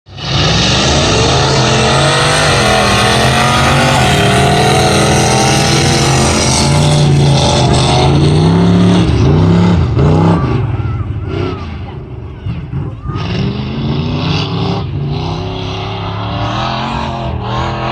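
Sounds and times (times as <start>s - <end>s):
truck engine revving hard: 0.1s - 17.9s.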